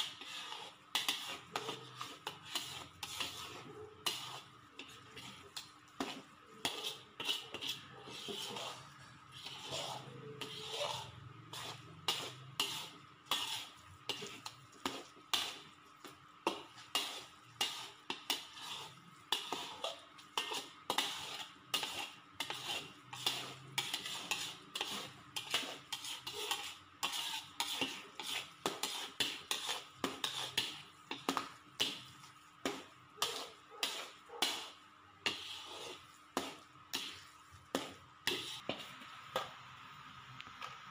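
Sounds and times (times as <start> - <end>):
spoon scraping a metal pan: 0.0 - 15.8, 16.4 - 38.8.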